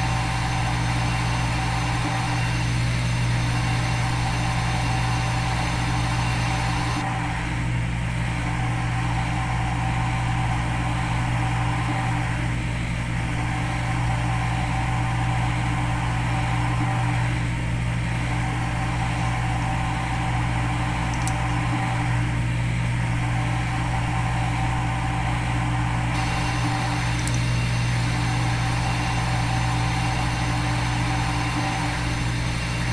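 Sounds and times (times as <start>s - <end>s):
mechanical hum: 0.0s - 32.9s.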